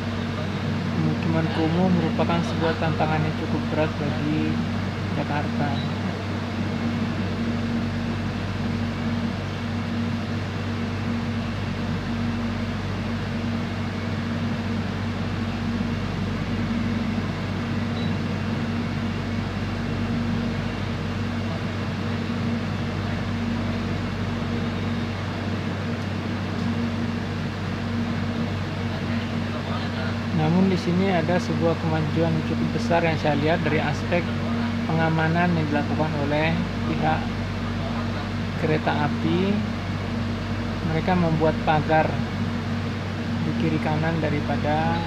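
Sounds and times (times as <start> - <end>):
train cabin hum and rumble: 0.0 - 45.0.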